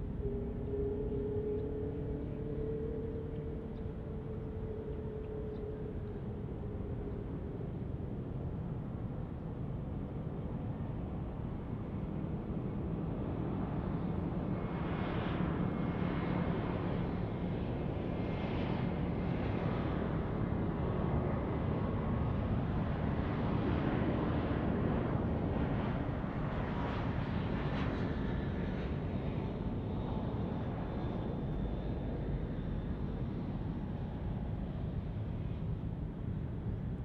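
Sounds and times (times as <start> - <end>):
jet engine noise with whine: 0.0 - 37.0.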